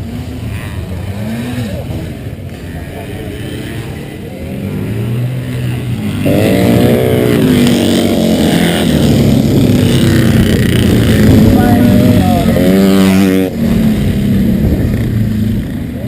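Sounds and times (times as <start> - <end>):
loud motorcycle engine revving: 0.0 - 16.0
motorcycle engines running: 0.0 - 16.0.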